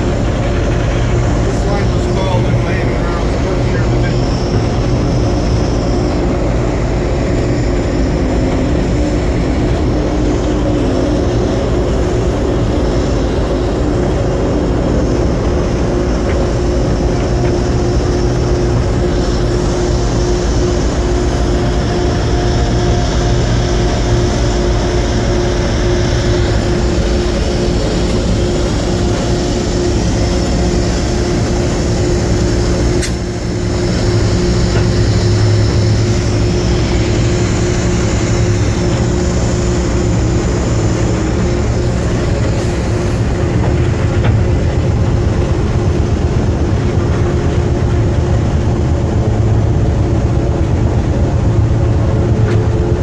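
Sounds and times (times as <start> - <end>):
locomotive engine drone: 0.0 - 53.0.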